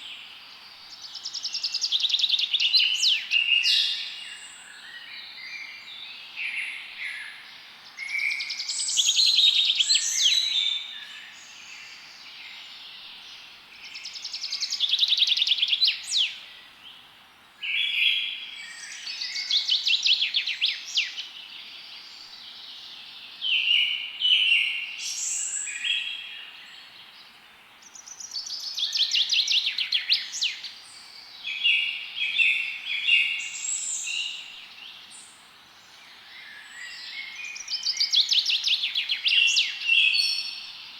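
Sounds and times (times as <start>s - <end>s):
faint steady hiss: 0.0s - 40.9s
songbirds trilling and chirping: 0.0s - 40.9s.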